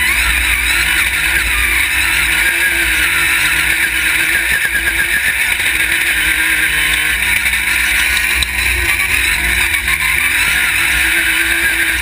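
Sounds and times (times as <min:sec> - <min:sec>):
race buggy engine running: 0:00.0 - 0:12.0.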